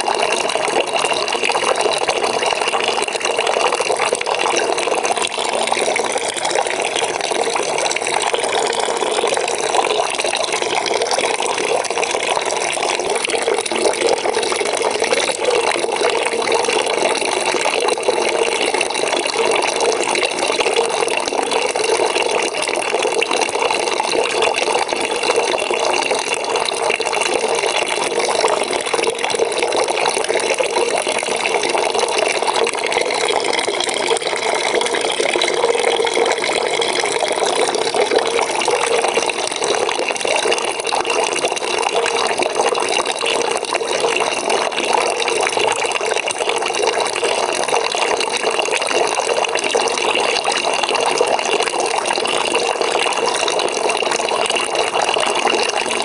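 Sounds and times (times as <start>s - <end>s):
water pouring into a bucket: 0.0s - 56.0s.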